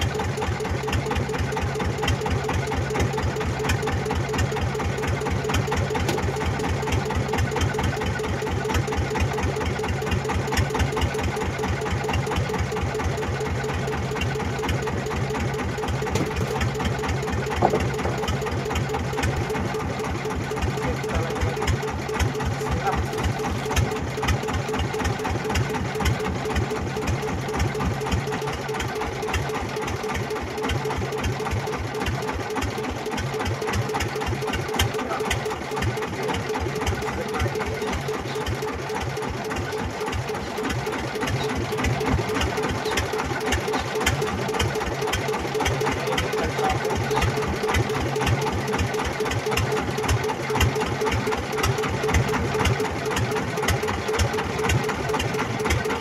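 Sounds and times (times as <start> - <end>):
boat engine idling: 0.0 - 56.0.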